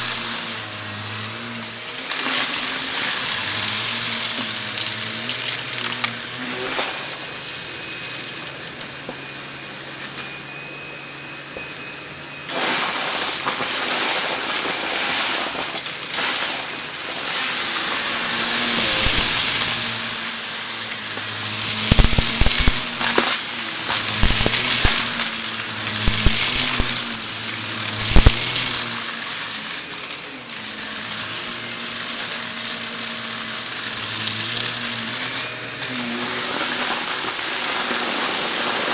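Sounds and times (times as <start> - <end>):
debris crackling through vacuum: 0.0 - 10.5, 12.5 - 38.9
vacuum cleaner running: 0.0 - 38.9.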